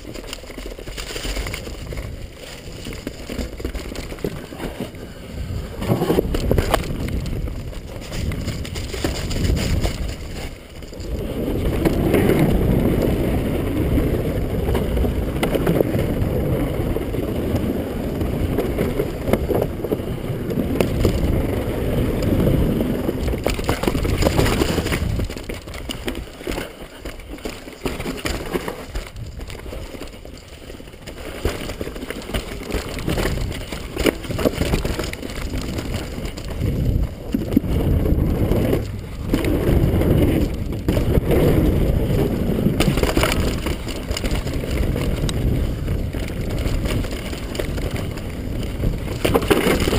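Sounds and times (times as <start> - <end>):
bike rattling: 0.0 - 49.9
bike tyres rumbling: 0.0 - 49.9
wind buffeting microphone: 4.2 - 27.4, 32.6 - 49.9.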